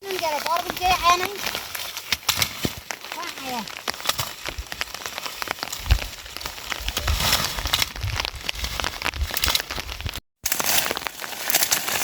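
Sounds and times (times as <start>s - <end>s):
rain pattering: 0.0s - 10.2s.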